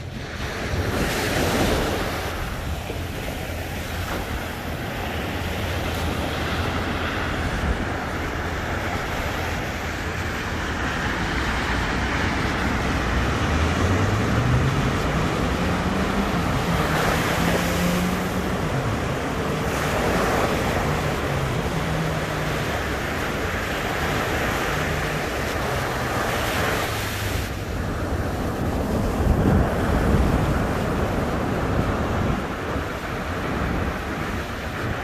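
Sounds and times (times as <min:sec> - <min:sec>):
engine: 0:00.0 - 0:35.0
waves washing onto beach: 0:00.0 - 0:35.0
wind buffeting microphone: 0:00.0 - 0:35.0.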